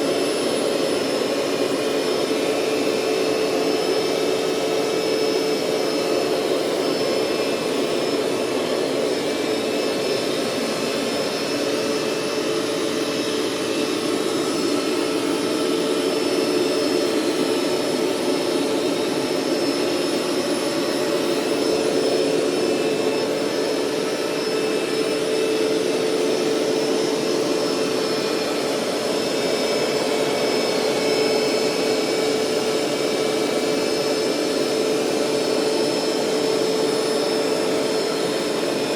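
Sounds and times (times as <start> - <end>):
carpet cleaner motor whining: 0.0 - 38.9.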